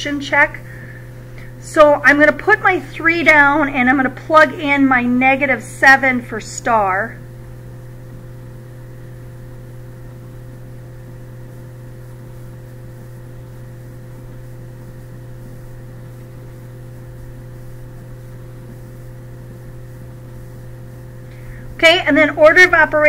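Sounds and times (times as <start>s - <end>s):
low electrical hum with hiss: 0.0s - 23.0s.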